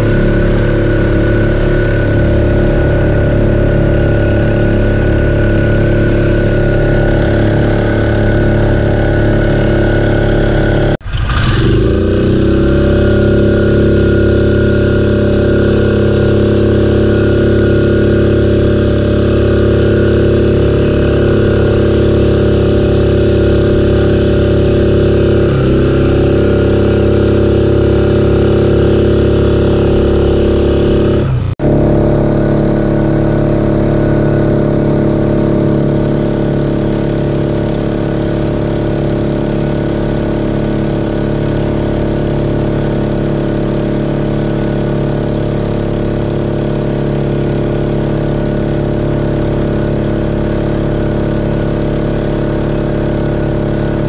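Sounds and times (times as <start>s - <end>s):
jet kayak engine running: 0.0s - 54.0s
jet wake rushing: 0.0s - 54.0s.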